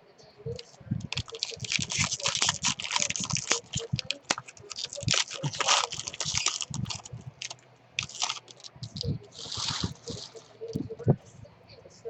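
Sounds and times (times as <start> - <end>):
wrapper crinkling: 0.5 - 11.0
cards being handled: 0.6 - 10.9.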